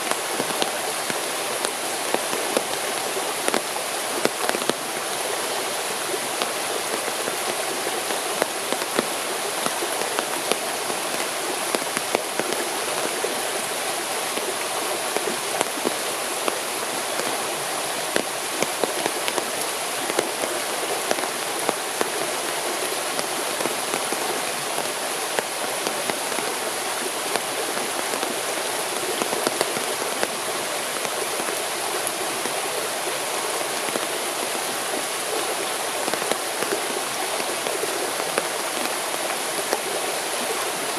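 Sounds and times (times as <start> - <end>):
rain hissing: 0.0 - 40.9
raindrops ticking: 0.0 - 40.9.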